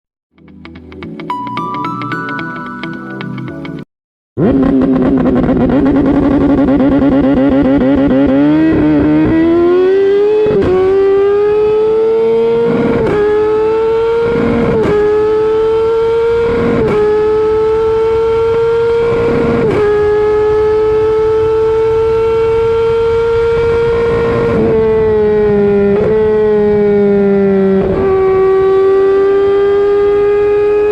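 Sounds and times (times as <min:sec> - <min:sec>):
motorcycle engine revving and accelerating: 0:04.4 - 0:30.9.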